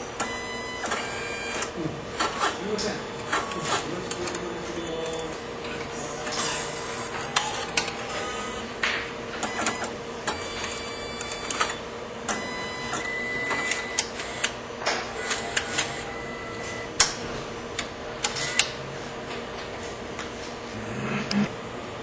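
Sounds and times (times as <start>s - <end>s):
card dispenser clicking: 0.0s - 18.8s
motor whine: 0.0s - 19.0s.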